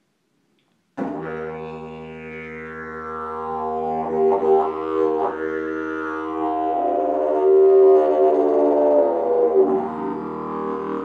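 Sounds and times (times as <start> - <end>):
didgeridoo drone: 1.0 - 11.0.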